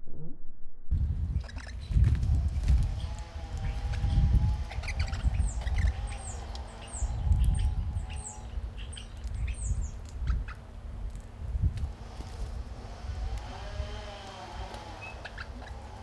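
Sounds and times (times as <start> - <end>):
low rumble: 0.0 - 16.0
birds chirping: 1.3 - 16.0.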